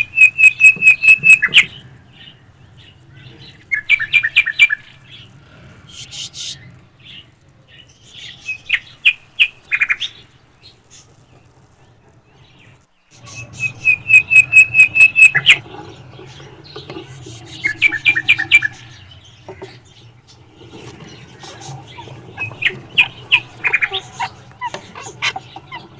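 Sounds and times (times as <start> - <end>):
parakeets chirping: 0.0 - 25.9.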